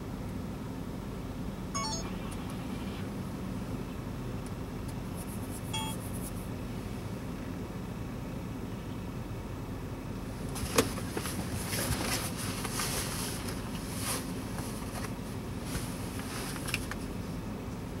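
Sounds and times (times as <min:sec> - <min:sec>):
low hum inside car cabin: 0:00.0 - 0:18.0.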